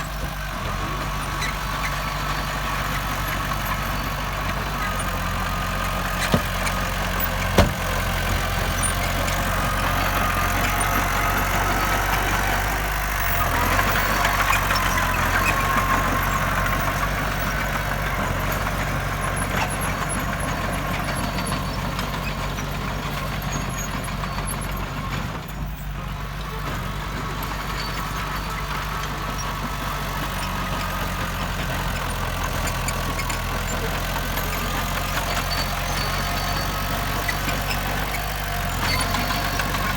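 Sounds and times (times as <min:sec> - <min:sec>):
diesel construction machinery running: 0:00.0 - 0:39.9.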